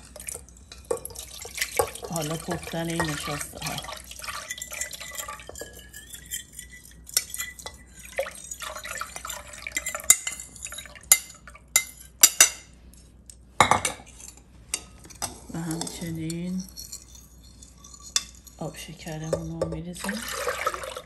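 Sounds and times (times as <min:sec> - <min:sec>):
spoon stirring and scraping dish: 0:00.0 - 0:21.0.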